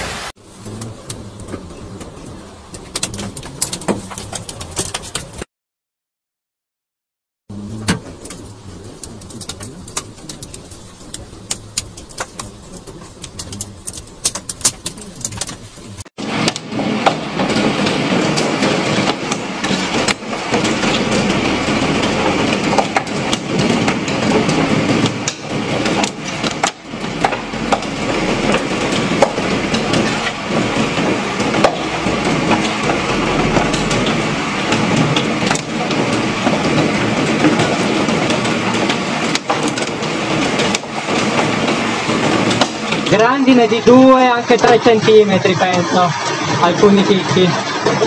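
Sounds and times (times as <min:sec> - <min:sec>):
hail clattering on street and cars: 0:00.4 - 0:05.5, 0:07.8 - 0:48.0.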